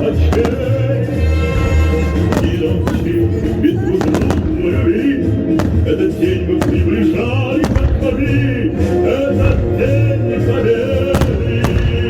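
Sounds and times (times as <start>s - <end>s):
firework bursts: 0.0s - 10.2s, 10.8s - 12.0s
loud music playing: 0.0s - 12.0s.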